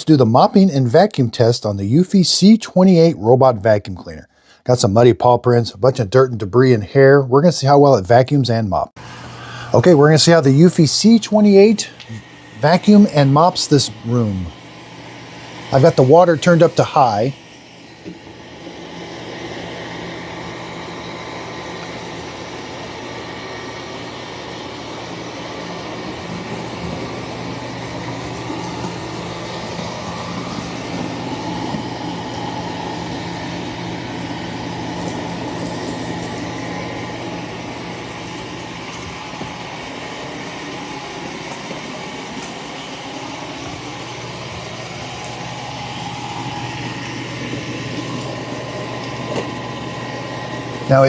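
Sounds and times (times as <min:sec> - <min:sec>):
robot vacuum whirring: 0:10.0 - 0:51.0.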